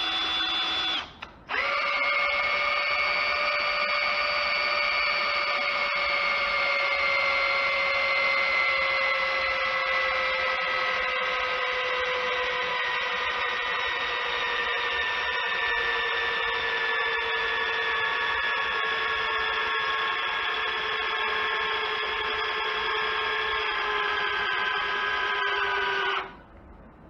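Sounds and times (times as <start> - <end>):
cordless drill motor whine: 0.0 - 26.4.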